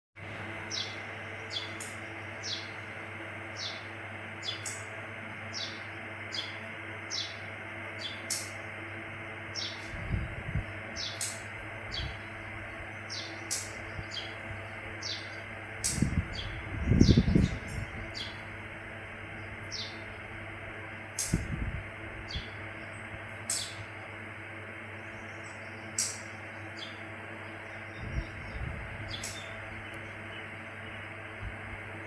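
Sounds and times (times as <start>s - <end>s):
steady low hum: 0.2s - 32.0s
small birds chirping: 0.3s - 21.6s, 22.2s - 32.0s.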